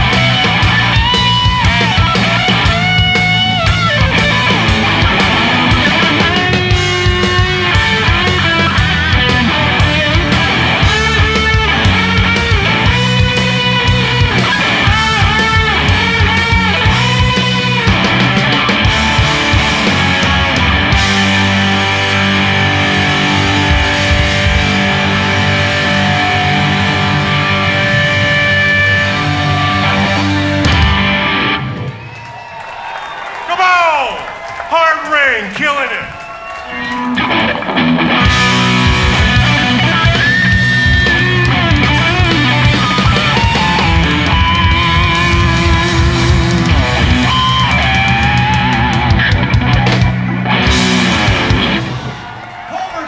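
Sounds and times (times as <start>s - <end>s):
electric guitar lead notes: 0.0s - 31.9s, 36.7s - 52.1s
rock band playing blues: 0.0s - 52.7s.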